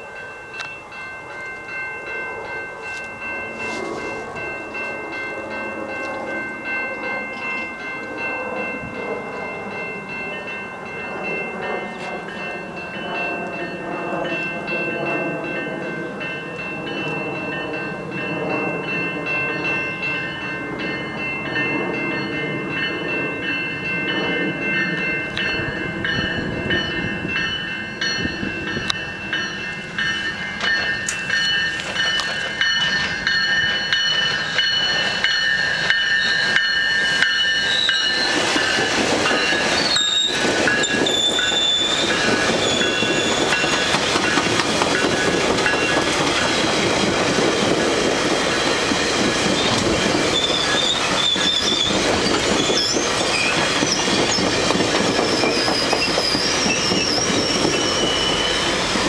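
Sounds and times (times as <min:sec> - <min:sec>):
diesel locomotive engine: 0:00.0 - 0:59.0
heavy train rumble: 0:00.0 - 0:59.0.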